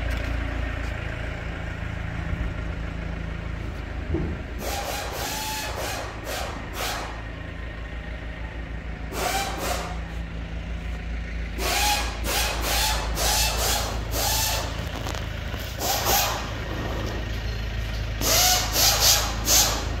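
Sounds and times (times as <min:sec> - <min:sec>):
forklift engine idling: 0:00.0 - 0:20.0.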